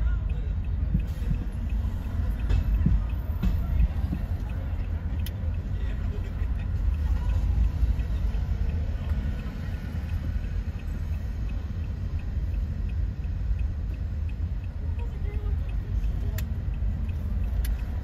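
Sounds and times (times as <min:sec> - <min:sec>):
car engine and tyre noise: 0:00.0 - 0:18.0
faint ticks: 0:00.0 - 0:18.0.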